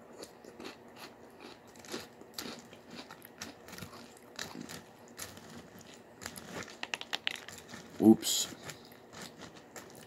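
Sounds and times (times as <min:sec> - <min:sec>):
chewing crunchy cereal: 0:00.0 - 0:10.0.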